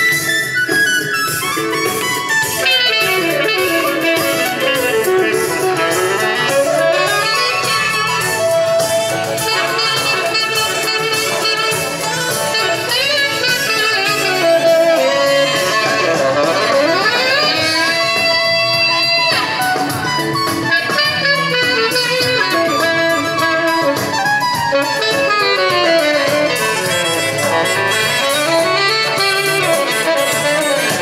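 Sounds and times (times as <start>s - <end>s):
accompanying music: 0.0s - 31.0s
tenor saxophone melody: 0.0s - 31.0s.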